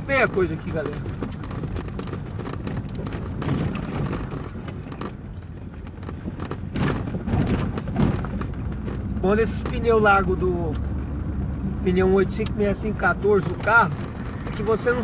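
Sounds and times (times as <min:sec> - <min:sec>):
car road and engine noise: 0:00.0 - 0:15.0
suspension knocks and rattles: 0:00.0 - 0:15.0.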